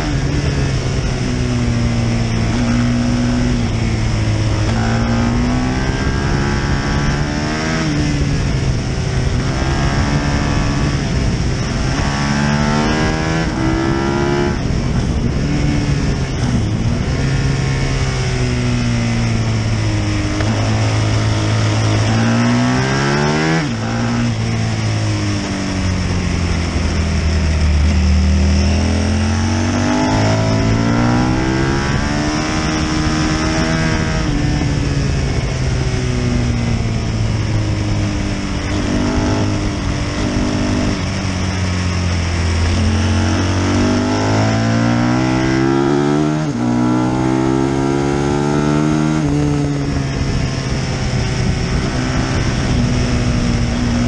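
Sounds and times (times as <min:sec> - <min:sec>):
motorcycle engine at speed: 0:00.0 - 0:54.0
wind rushing past microphone: 0:00.0 - 0:54.0.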